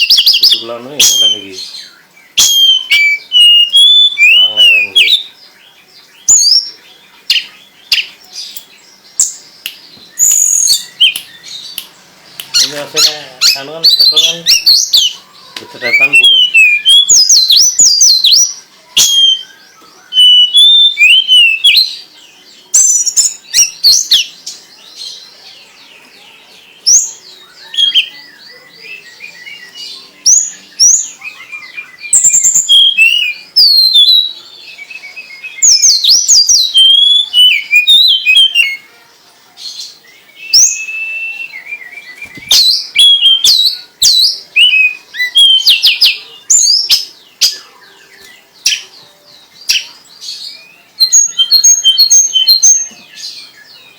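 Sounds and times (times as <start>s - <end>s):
songbird whistling and chirping: 0.0s - 53.9s.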